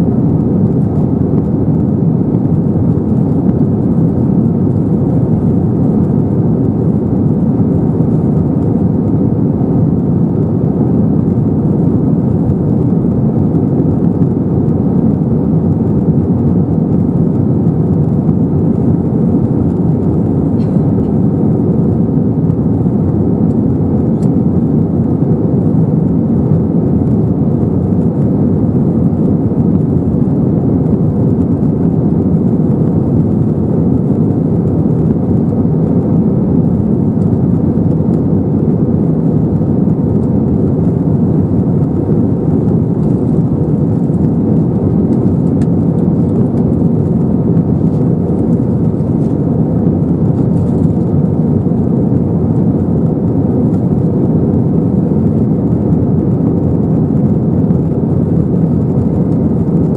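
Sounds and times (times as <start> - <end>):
jet engines in cabin: 0.0 - 59.9.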